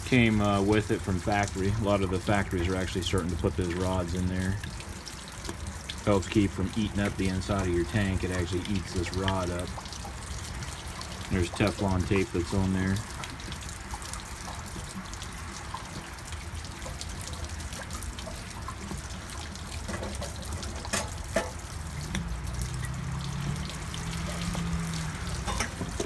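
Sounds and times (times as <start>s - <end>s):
water trickling from drain: 0.0s - 26.0s.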